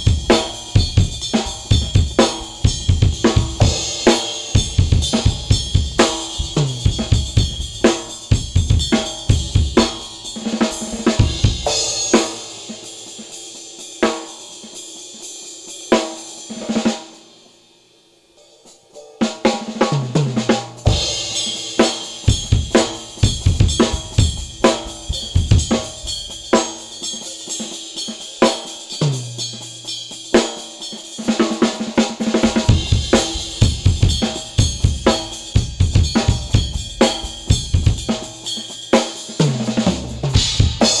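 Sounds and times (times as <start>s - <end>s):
drum kit groove: 0.0s - 17.6s, 18.3s - 41.0s
ringing cymbals: 0.0s - 19.8s, 20.8s - 41.0s.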